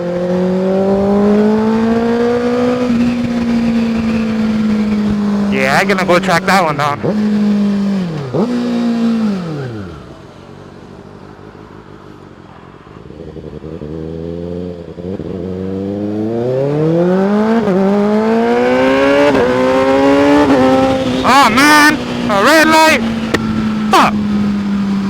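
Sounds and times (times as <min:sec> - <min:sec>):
motorcycle engine revving: 0:00.0 - 0:12.0, 0:12.9 - 0:25.0.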